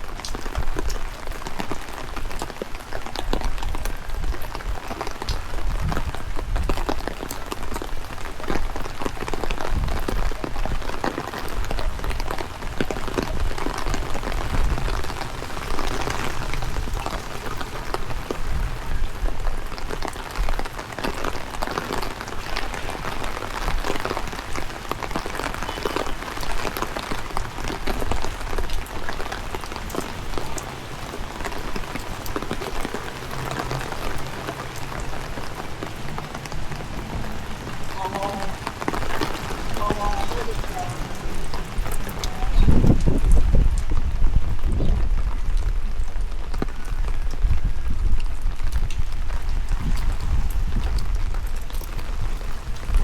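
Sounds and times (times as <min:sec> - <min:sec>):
heavy rain: 0:00.0 - 0:53.0
wind rumble on microphone: 0:00.1 - 0:53.0.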